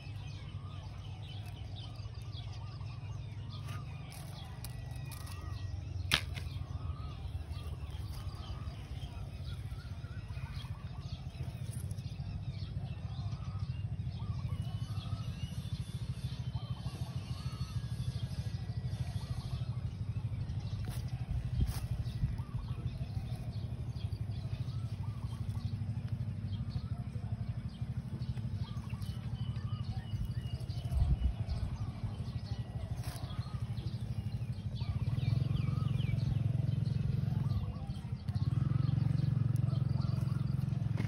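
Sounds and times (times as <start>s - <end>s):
engine running with pulsing hum: 0.0s - 41.0s
small birds chirping: 0.0s - 41.0s.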